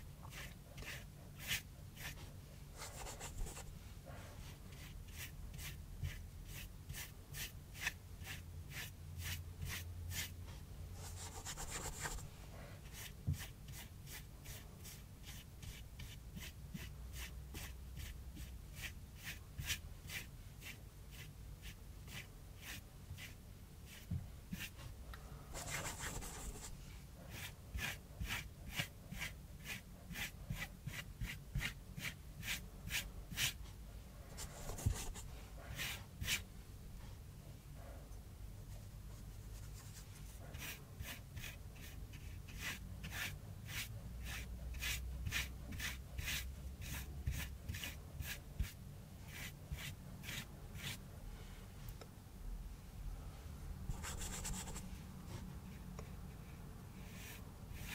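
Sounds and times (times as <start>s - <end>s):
brush stirring paint in dish: 0.2s - 33.6s, 34.3s - 36.4s, 39.2s - 51.0s, 53.9s - 54.8s, 57.0s - 57.9s
paintbrush scratching on cardboard: 0.2s - 33.6s, 34.3s - 36.4s, 39.2s - 51.0s, 53.9s - 54.9s, 57.0s - 57.9s.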